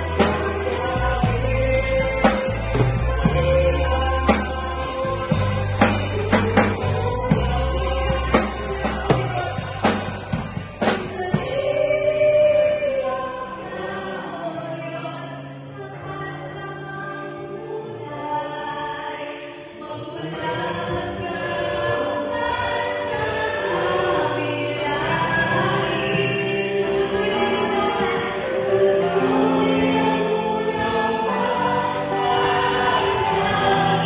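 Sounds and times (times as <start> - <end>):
bass: 0.0 - 17.1, 20.1 - 34.0
choir singing: 0.0 - 34.0
keyboard: 0.0 - 34.0.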